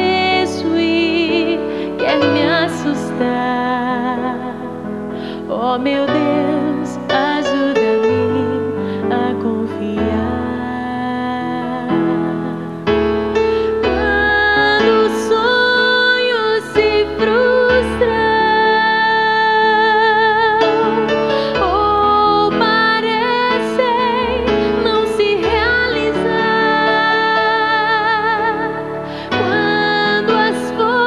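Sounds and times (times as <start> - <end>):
woman singing ballad: 0.0 - 31.0.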